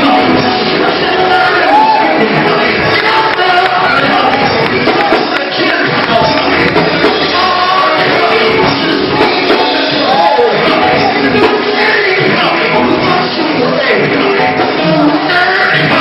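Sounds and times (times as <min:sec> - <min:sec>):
voices singing church music: 0:00.0 - 0:16.0.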